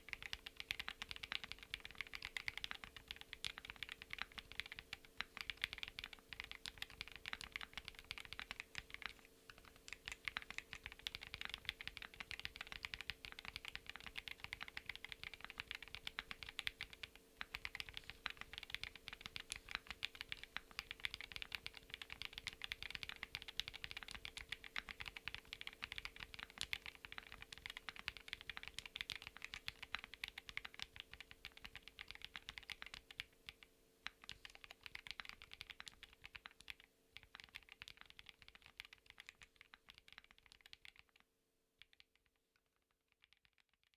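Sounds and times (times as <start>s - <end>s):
mechanical keyboard typing: 0.0s - 41.2s, 41.8s - 42.1s
faint steady hum: 0.0s - 42.6s.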